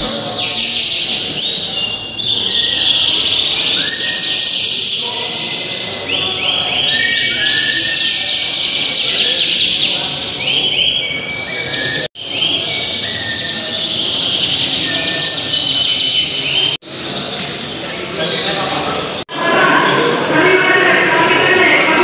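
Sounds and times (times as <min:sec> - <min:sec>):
canaries singing: 0:00.0 - 0:22.0.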